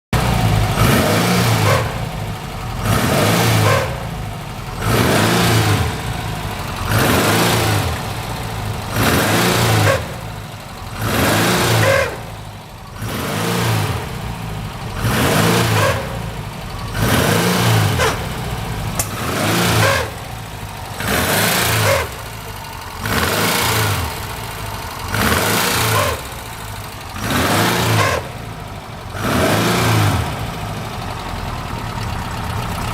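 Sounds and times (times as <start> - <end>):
car engine revving in blips: 0.2 - 32.9.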